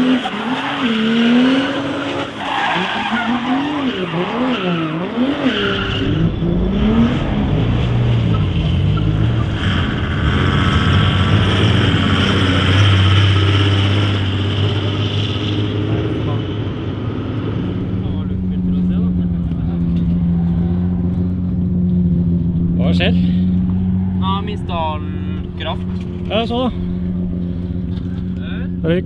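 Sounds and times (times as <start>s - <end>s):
diesel engine revving: 0.0s - 29.0s
tyres skidding: 0.0s - 29.0s.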